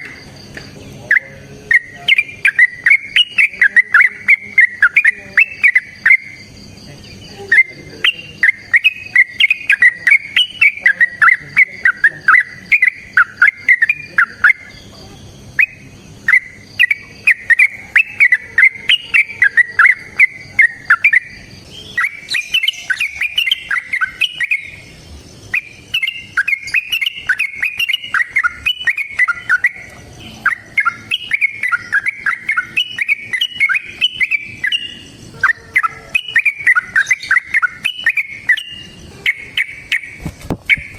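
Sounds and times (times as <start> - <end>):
bird singing warbling notes: 0.0 - 40.9.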